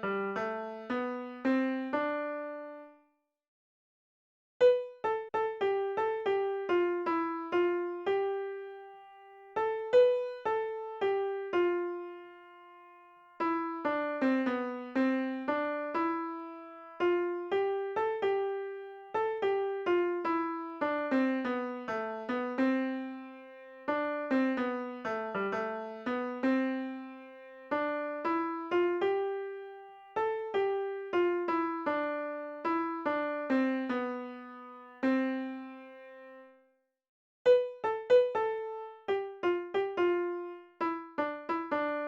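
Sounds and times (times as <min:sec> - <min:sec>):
gentle keyboard melody: 0:00.0 - 0:03.0, 0:04.6 - 0:36.6, 0:37.5 - 0:42.0.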